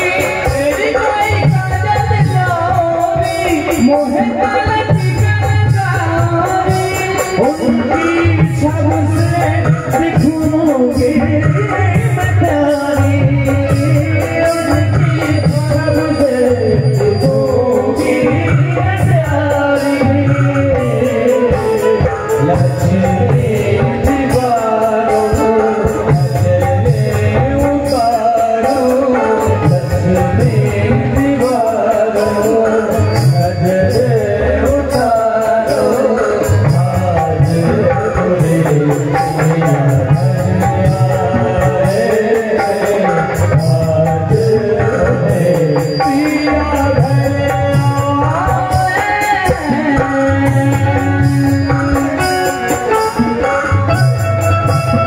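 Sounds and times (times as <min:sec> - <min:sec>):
man singing devotional song: 0:00.0 - 0:55.0
tabla and percussion beat: 0:00.0 - 0:55.0.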